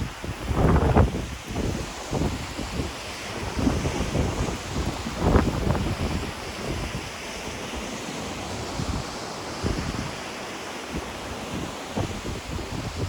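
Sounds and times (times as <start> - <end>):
ocean surf on shore: 0.0 - 13.0
wind buffeting microphone: 0.0 - 13.0.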